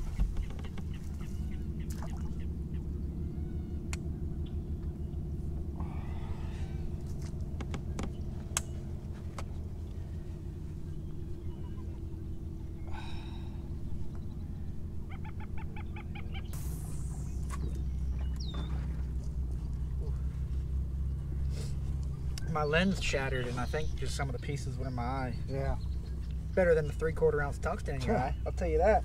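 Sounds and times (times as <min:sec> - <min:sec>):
marsh birds calling: 0:00.0 - 0:29.0
outboard engine idling: 0:00.0 - 0:29.0.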